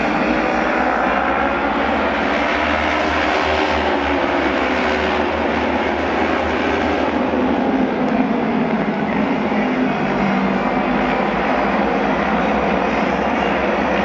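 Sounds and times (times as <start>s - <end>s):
racing motorcycle engines droning: 0.0s - 14.0s.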